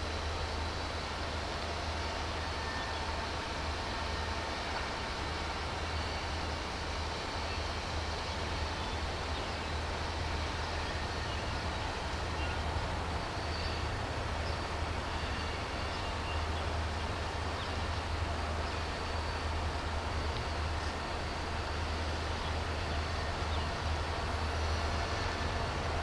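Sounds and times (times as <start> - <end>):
distant diesel locomotive drone: 0.0 - 26.0.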